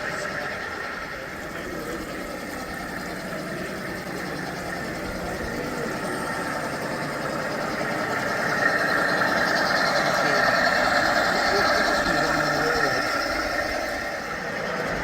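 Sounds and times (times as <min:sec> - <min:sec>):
simulated diesel engine sound: 0:00.0 - 0:15.0.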